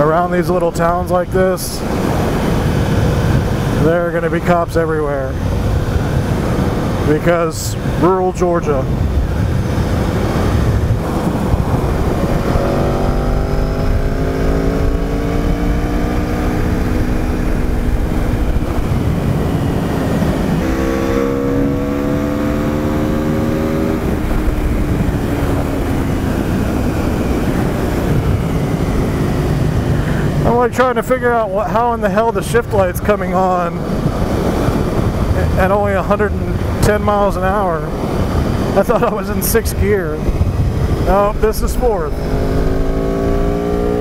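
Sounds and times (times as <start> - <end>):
motorcycle engine accelerating: 0.0 - 32.2, 33.4 - 44.0
wind noise: 0.0 - 44.0.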